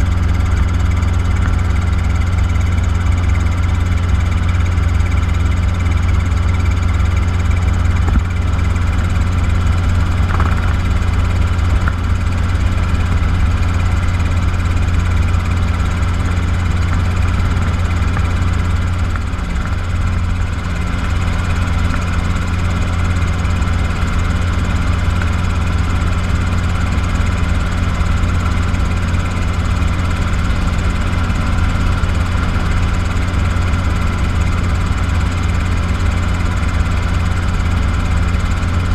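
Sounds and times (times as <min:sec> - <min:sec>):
helicopter engine and rotors droning: 0:00.0 - 0:38.9.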